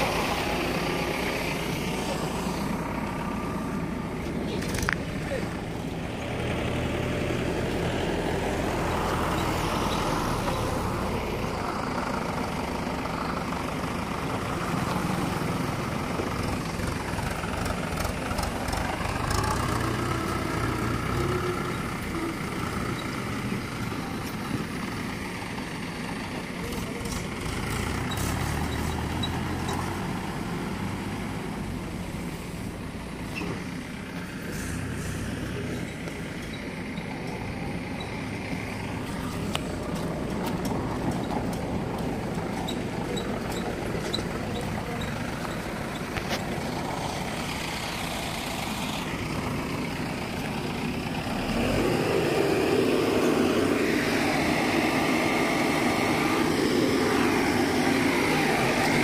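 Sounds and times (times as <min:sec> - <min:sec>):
tractor diesel engine running: 0:00.0 - 0:59.0
trailer rattling: 0:00.0 - 0:59.0.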